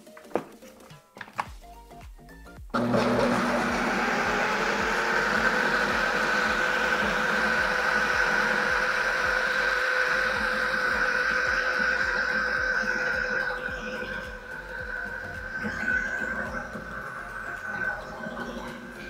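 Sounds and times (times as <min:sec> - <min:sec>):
food processor motor running: 0:02.8 - 0:19.0.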